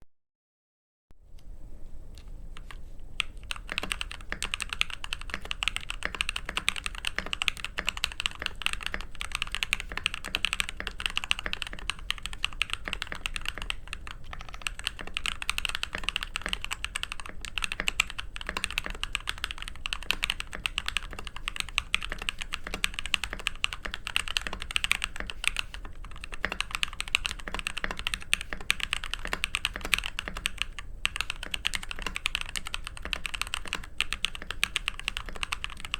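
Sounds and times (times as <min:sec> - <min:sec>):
fast typing on mechanical keyboard: 0:02.6 - 0:35.9.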